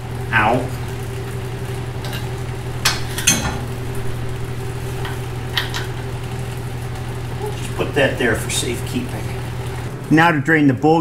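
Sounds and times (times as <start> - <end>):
heater hum: 0.0 - 11.0.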